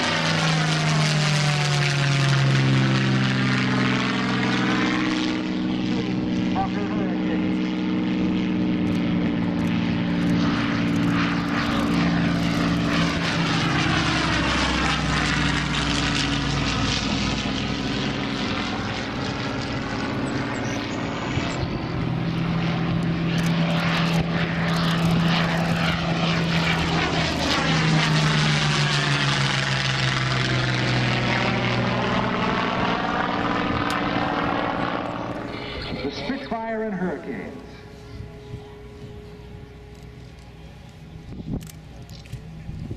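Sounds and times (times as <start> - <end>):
aircraft engines droning past: 0.0 - 42.9.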